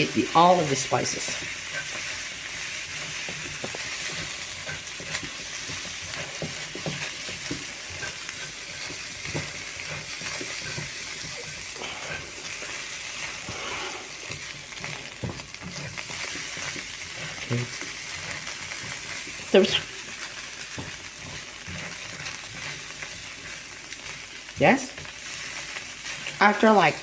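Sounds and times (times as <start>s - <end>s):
egg sizzling in a pan: 0.0s - 27.0s
spatula scraping a pan: 1.0s - 24.2s.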